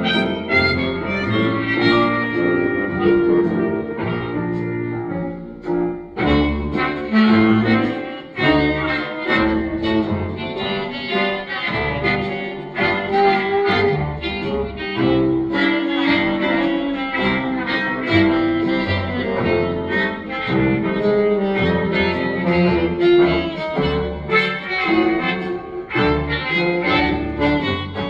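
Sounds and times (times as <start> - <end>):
moving bass line: 0.0 - 27.8
bowed strings melody: 0.0 - 28.0.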